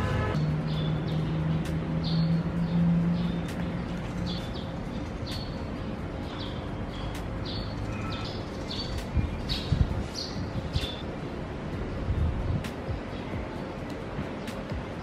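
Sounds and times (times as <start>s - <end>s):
small birds chirping: 0.4s - 11.1s, 12.1s - 15.0s.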